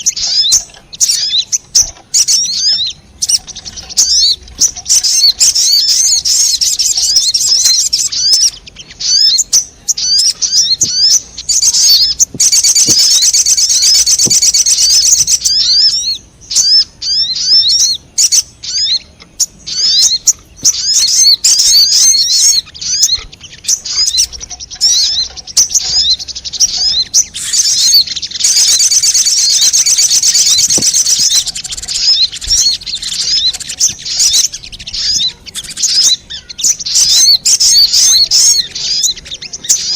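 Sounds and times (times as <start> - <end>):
fast bird trilling: 0.0 - 39.9
high-pitched bird chirps: 0.0 - 39.9.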